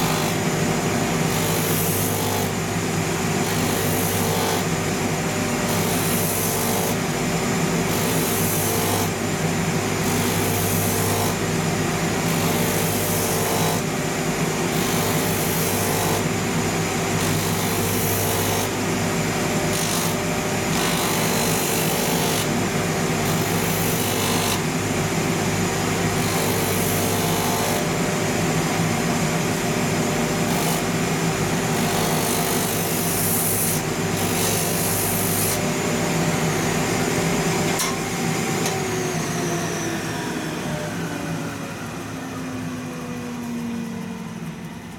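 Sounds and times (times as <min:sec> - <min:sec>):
sanding machine motor hum: 0:00.0 - 0:44.9.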